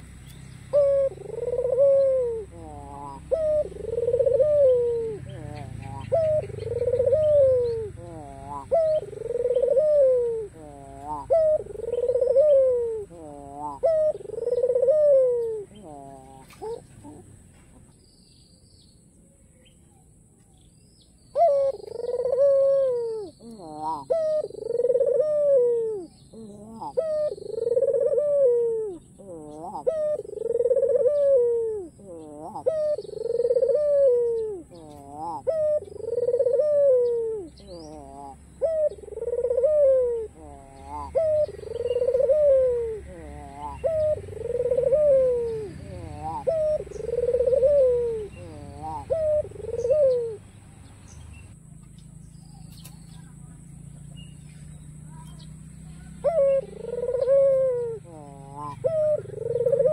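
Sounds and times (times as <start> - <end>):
dove cooing: 0.0 - 17.9, 21.3 - 50.6, 54.6 - 59.9
small birds chirping faintly: 0.0 - 59.9.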